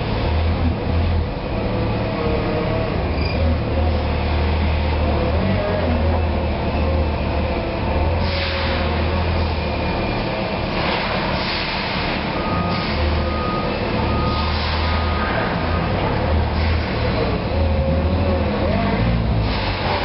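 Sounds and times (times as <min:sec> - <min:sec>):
forklift engine drone: 0:00.0 - 0:20.0.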